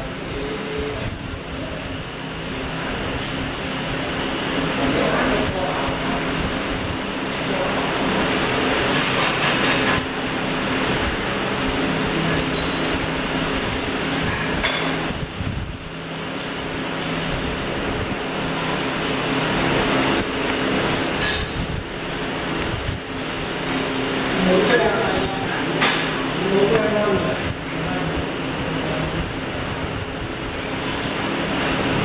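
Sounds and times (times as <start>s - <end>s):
welding arc crackling hiss: 0.0s - 32.0s.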